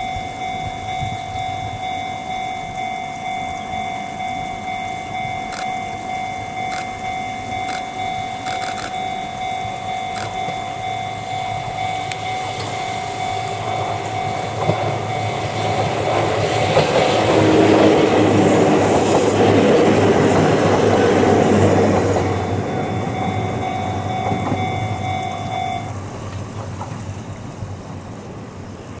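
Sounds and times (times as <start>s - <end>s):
train wheels clattering on rails: 0.0s - 27.5s.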